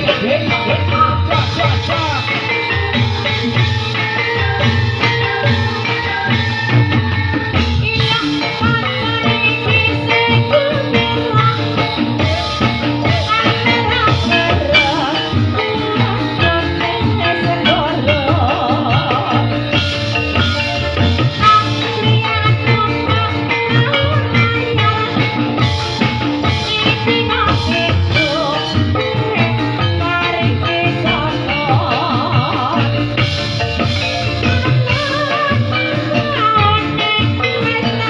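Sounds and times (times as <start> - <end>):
drums keeping a steady beat: 0.0 - 38.0
melodic instruments: 0.0 - 38.0
wavering melody line: 0.0 - 38.0.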